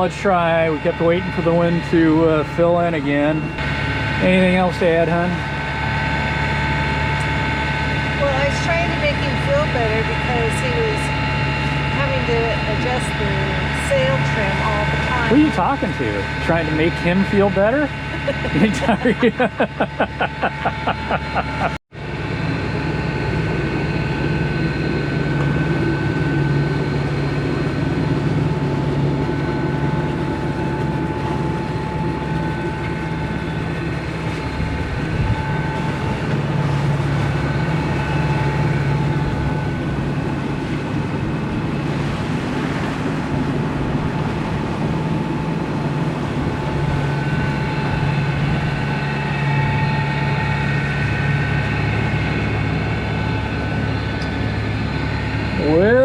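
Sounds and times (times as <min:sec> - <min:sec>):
boat diesel engine droning: 0:00.0 - 0:56.0.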